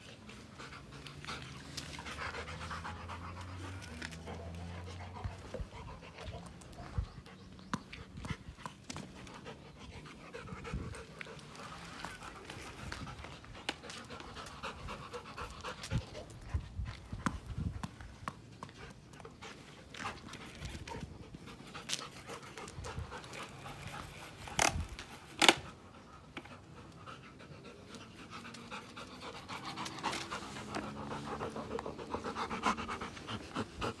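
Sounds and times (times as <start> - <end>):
dog panting: 0.1 - 24.6, 25.6 - 34.0.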